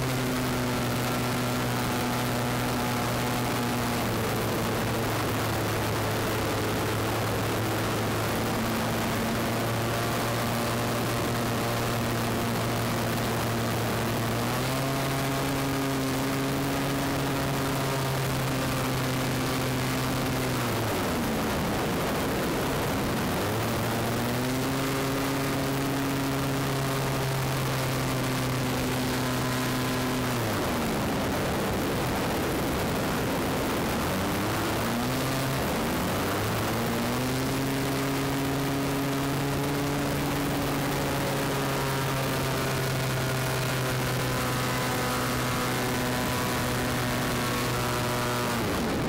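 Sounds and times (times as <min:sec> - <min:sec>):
plane engine and propeller drone: 0:00.0 - 0:49.0
wind noise: 0:00.0 - 0:49.0.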